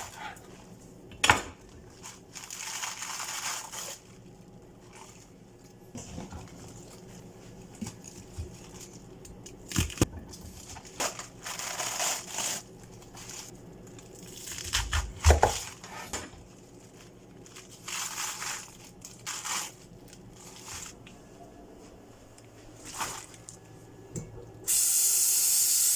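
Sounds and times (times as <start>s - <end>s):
food crunching and rustling: 1.6s - 23.8s.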